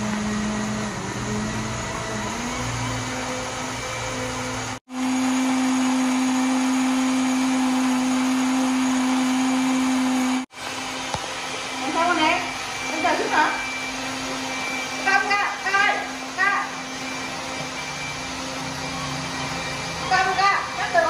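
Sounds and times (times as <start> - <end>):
blender motor whine: 0.0 - 21.0.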